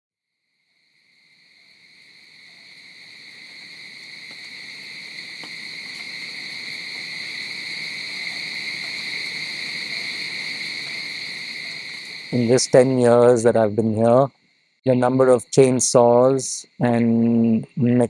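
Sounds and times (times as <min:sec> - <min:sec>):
insect chorus: 0:00.3 - 0:18.0.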